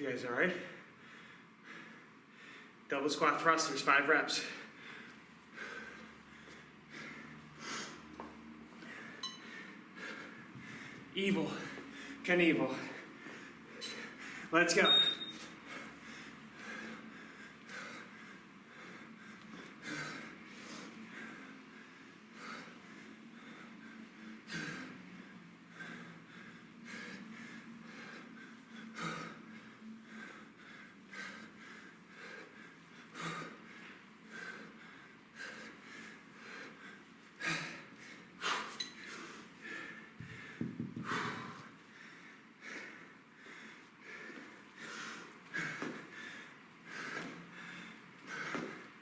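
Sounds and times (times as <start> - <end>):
man breathing hard: 0.4 - 2.9, 4.3 - 14.6, 15.3 - 49.0.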